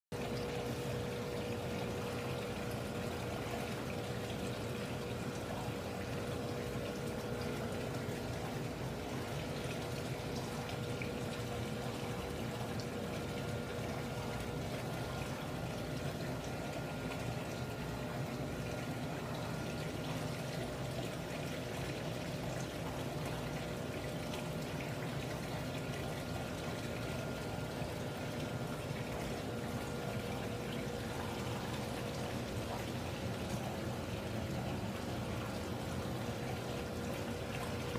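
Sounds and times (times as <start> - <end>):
water pouring and trickling: 0.1 - 37.9.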